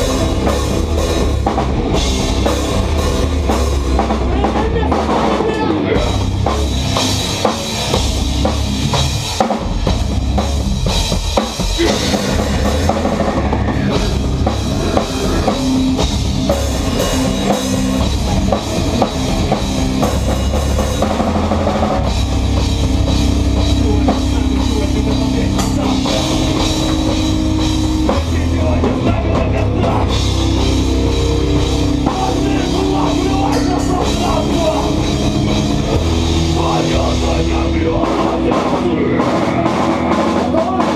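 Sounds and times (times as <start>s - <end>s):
bass guitar: 0.0s - 40.9s
distorted electric guitars: 0.0s - 40.9s
drum kit with cymbals: 0.0s - 40.9s.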